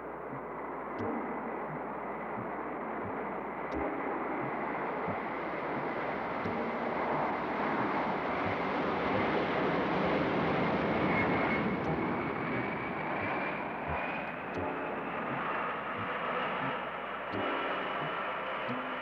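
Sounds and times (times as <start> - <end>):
high engine whine rising: 0.0 - 19.0
jet engines roaring: 0.4 - 19.0.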